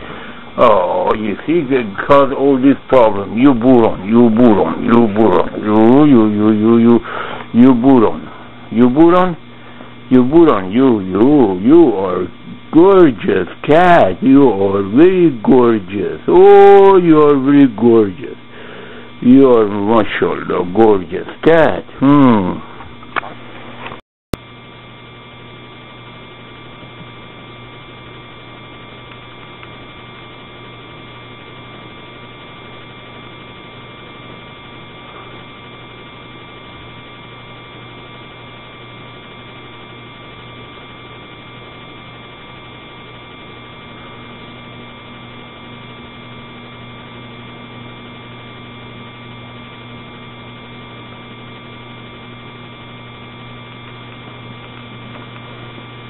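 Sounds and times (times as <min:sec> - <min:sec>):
electrical hum with hiss: 0:00.0 - 0:56.0
higher hum tone: 0:00.0 - 0:56.0.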